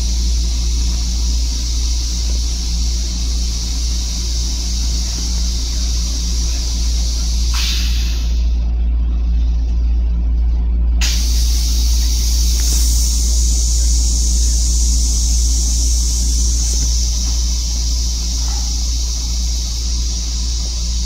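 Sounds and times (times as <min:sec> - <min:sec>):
steady high hiss: 0:00.0 - 0:08.8, 0:11.0 - 0:21.0
electric railcar hum and rumble: 0:00.0 - 0:21.0.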